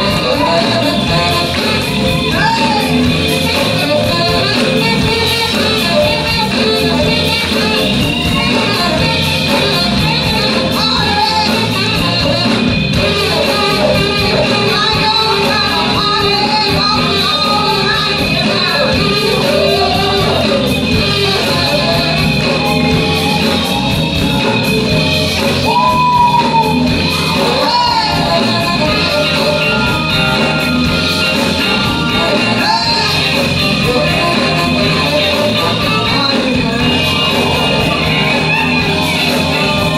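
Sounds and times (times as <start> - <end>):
person singing and shouting: 0.0 - 39.9
soul band playing: 0.0 - 39.9.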